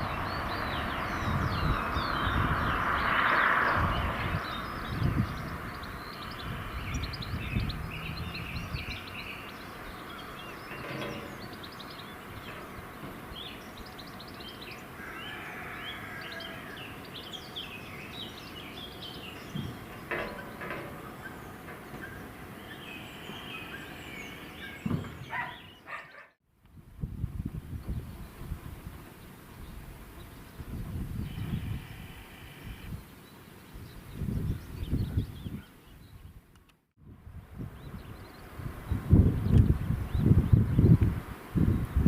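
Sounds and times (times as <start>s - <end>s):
small birds chirping: 0.0s - 26.8s, 27.6s - 36.8s, 37.4s - 42.0s.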